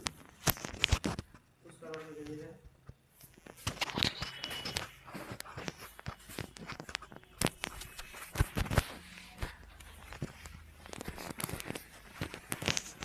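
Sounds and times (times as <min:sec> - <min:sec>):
back cracking clicks and knocks: 0:00.0 - 0:13.0.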